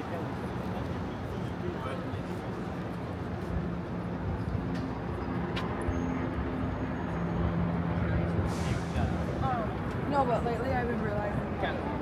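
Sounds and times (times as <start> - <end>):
city traffic hum: 0.0 - 12.0.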